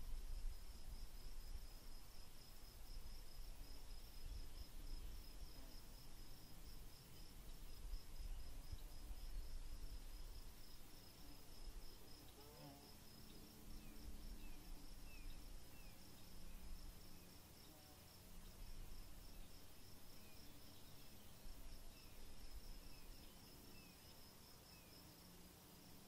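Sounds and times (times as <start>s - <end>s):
high insect trill: 0.4s - 26.0s.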